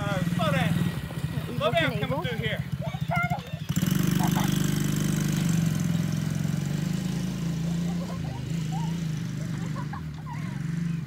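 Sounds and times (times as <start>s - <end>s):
small atv engine running: 0.0s - 11.0s.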